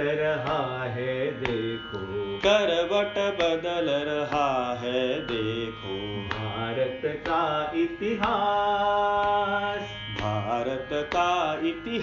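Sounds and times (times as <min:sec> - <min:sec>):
musical accompaniment: 0:00.0 - 0:12.0.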